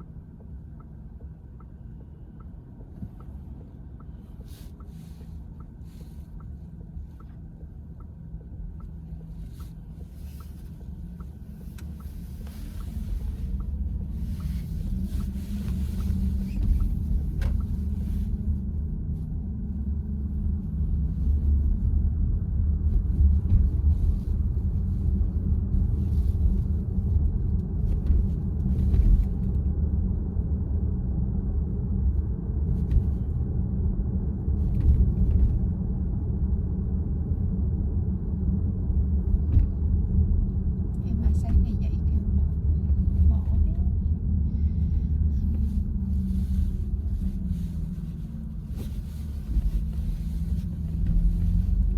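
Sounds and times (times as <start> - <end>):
road and tyre rumble: 0.0 - 51.9.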